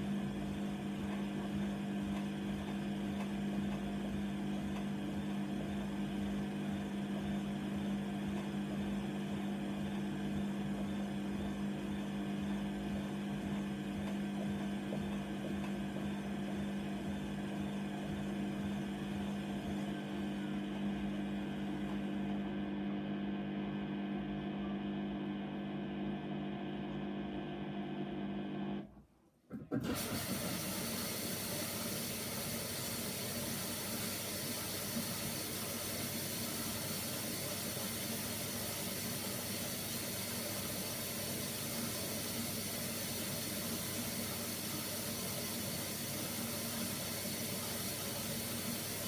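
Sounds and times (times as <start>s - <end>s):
washing machine motor hum: 0.0s - 49.0s.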